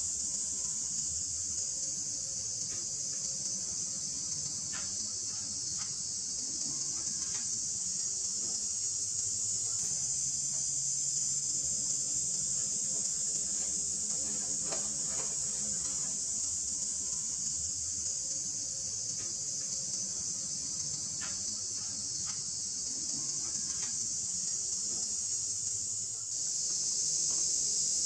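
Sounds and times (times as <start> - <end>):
insects droning high-pitched: 0.0 - 28.0.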